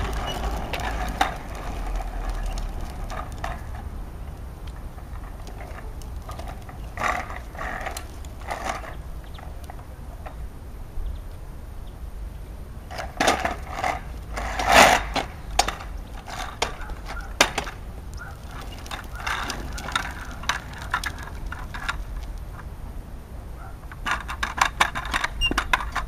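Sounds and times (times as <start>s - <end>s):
plastic tricycle wheels rumbling: 0.0s - 26.0s.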